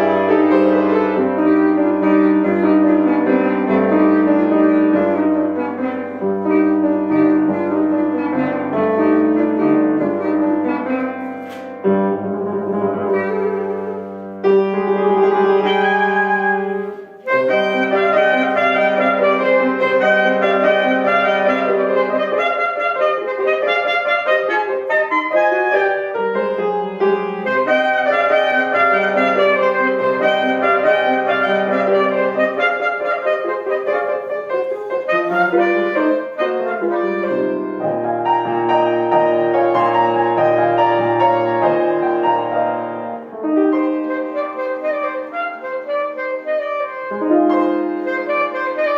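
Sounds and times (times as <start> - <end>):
piano accompaniment: 0.0 - 48.9
wind instrument melody: 0.0 - 48.9.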